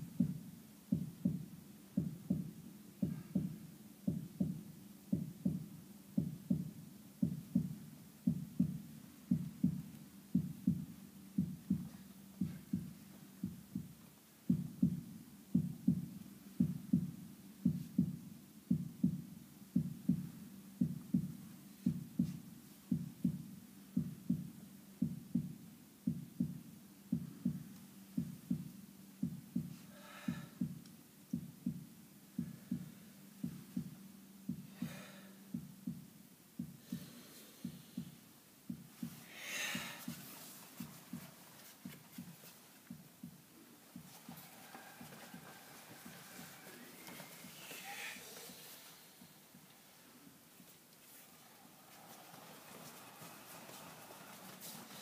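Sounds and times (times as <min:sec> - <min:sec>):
heartbeat thumps: 0:00.0 - 0:48.0.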